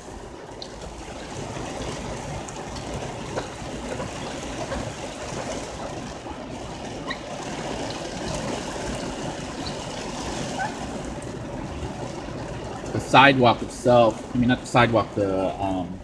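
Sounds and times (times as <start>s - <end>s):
heavy rain on a vehicle: 0.0s - 16.0s
water drips and splashes: 0.0s - 16.0s.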